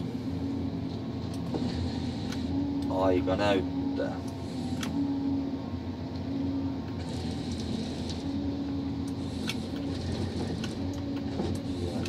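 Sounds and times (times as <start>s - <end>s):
engine and hydraulic drone: 0.0s - 12.0s
machine hum: 0.0s - 12.0s.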